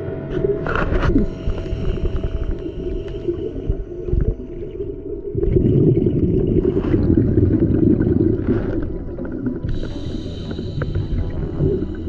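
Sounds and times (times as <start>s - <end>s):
underwater air bubbling: 0.5s - 12.0s.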